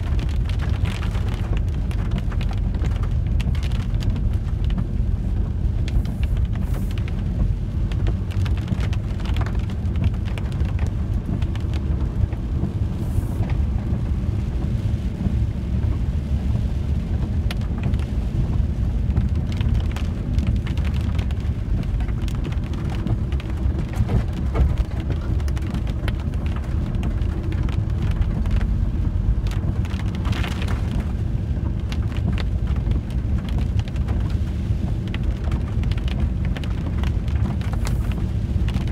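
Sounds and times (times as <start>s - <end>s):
raindrops ticking on windscreen: 0.0s - 38.9s
van rumbling on wet road: 0.0s - 38.9s.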